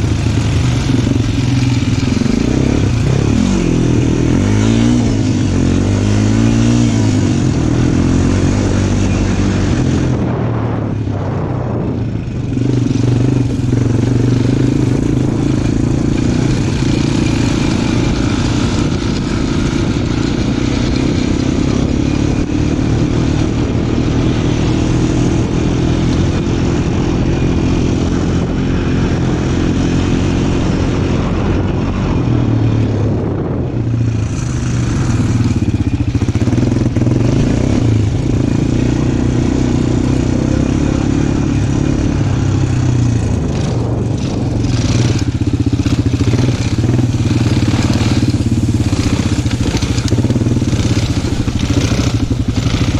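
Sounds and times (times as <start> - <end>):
off-road vehicle engine running: 0.0 - 52.9.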